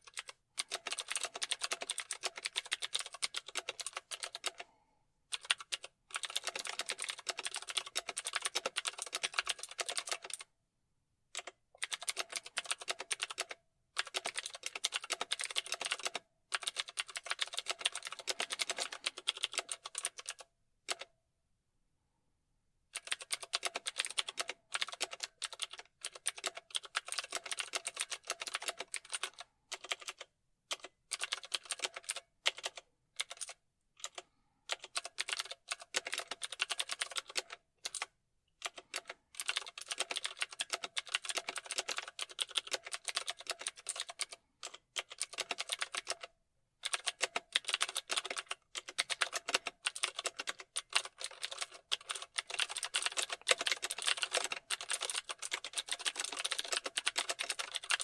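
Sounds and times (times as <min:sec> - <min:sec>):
typing on keyboard: 0:00.0 - 0:04.7, 0:05.3 - 0:10.5, 0:11.4 - 0:21.1, 0:22.9 - 0:58.0.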